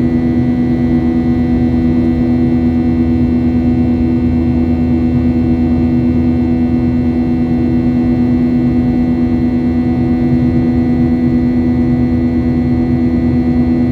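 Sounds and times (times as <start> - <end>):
jet engine drone in cabin: 0.0 - 13.9.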